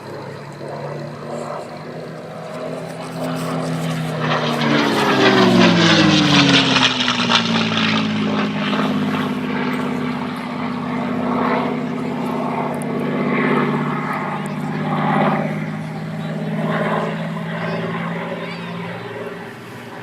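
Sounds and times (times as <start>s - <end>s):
propeller plane flying past: 0.0s - 20.0s.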